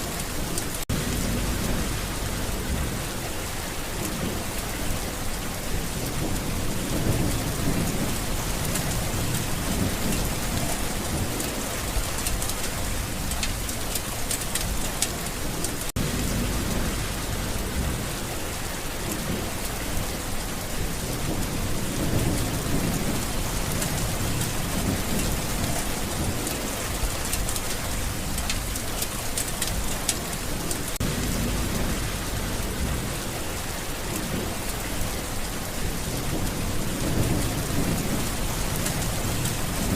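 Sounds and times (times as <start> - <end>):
heavy rain hissing: 0.0 - 39.9
low thunder rumbling: 0.0 - 39.9.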